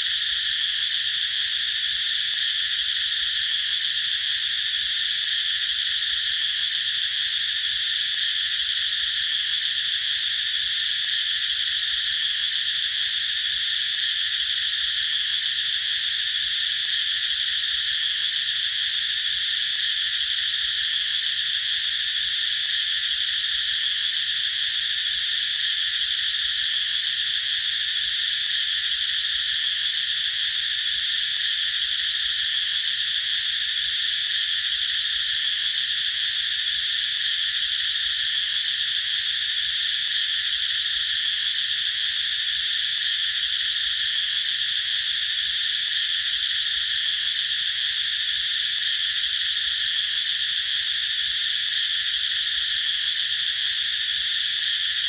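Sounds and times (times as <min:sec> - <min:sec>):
cicadas buzzing in chorus: 0:00.0 - 0:55.0.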